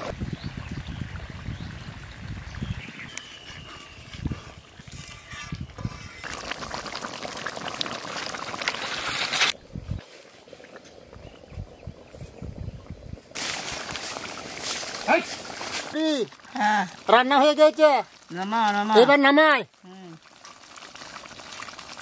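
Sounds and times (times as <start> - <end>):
curry bubbling in a wok: 0.1 - 22.0.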